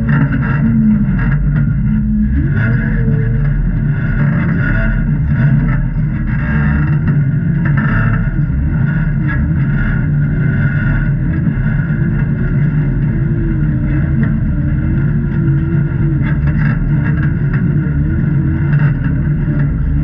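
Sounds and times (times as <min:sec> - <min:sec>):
vehicle engine running at low revs: 0:00.0 - 0:20.0.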